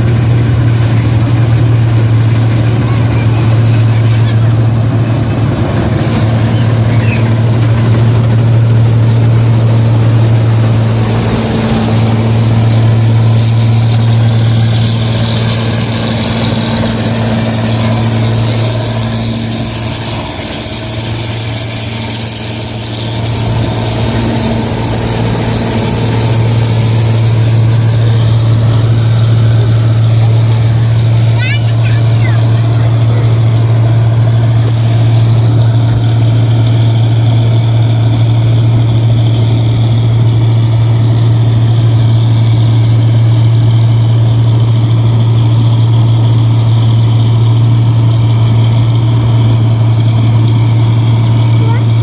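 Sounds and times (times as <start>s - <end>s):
combine harvester diesel engine: 0.0s - 52.0s.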